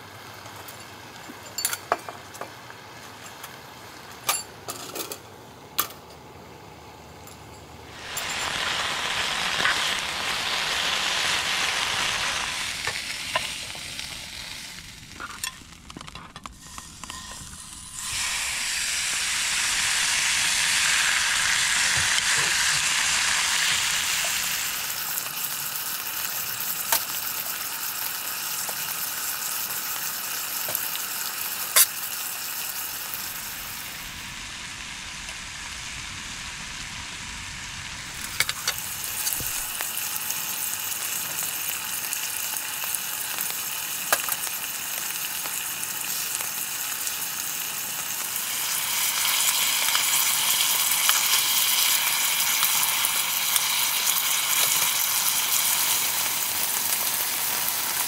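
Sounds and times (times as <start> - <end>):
food sizzling in a pan: 7.9 - 58.0.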